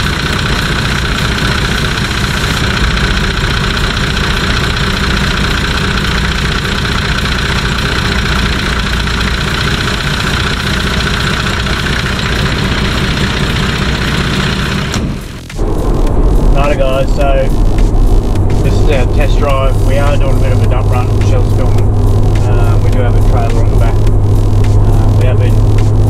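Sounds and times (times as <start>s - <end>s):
clutch fan humming: 0.0s - 26.0s
diesel engine idling: 0.0s - 26.0s.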